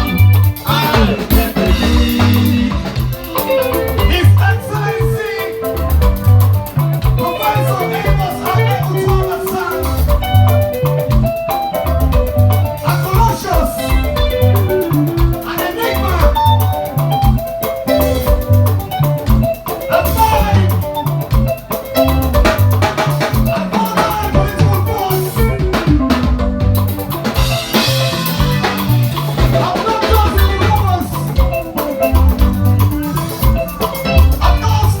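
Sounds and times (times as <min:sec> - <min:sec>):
upbeat band music: 0:00.0 - 0:35.0.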